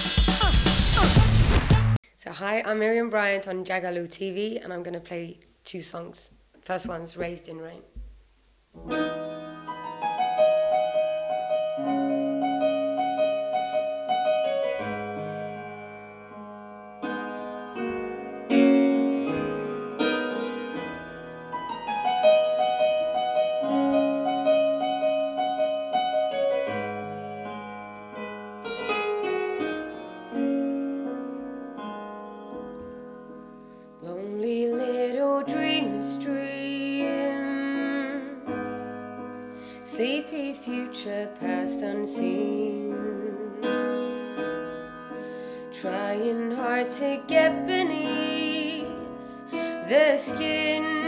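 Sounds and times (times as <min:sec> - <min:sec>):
slow gentle piano: 0:08.8 - 0:51.0.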